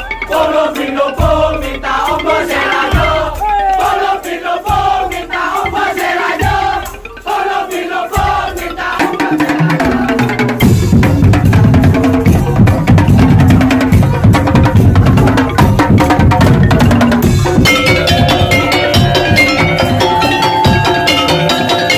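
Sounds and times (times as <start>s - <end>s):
wavering melody: 0.0s - 10.8s, 14.8s - 21.9s
wooden slit drums and drums: 0.0s - 21.9s.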